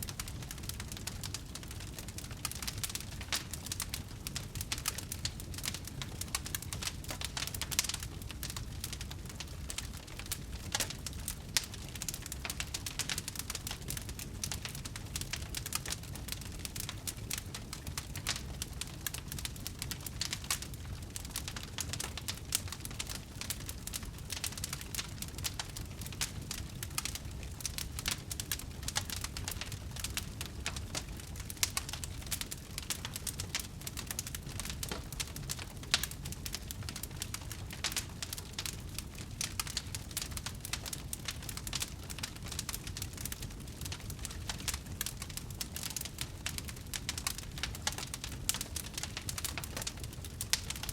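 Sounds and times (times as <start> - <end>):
low rumble of flames: 0.0 - 50.9
wood fire crackling: 0.0 - 50.9.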